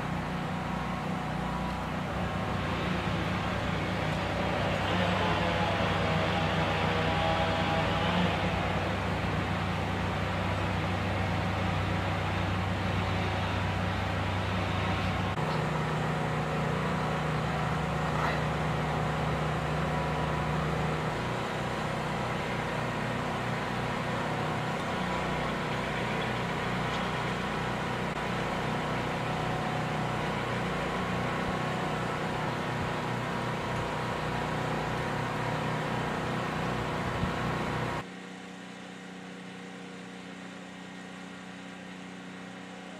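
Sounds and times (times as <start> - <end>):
machine engine humming: 0.0 - 38.1.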